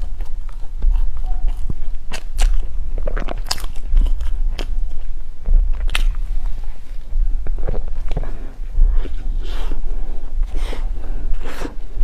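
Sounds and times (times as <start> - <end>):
bread crunching: 0.0 - 9.8
low hum: 0.0 - 12.0.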